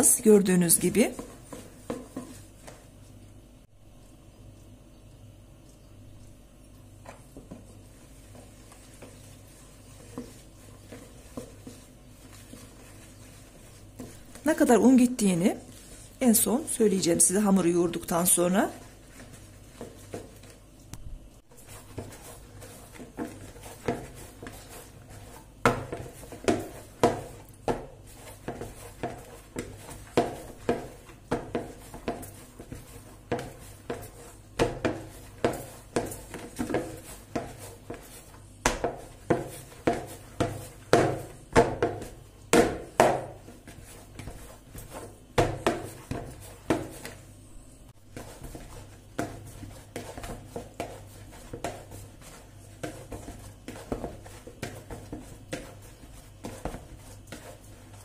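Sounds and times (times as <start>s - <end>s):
dough kneaded in plastic bowl: 0.0s - 4.6s, 5.8s - 58.0s.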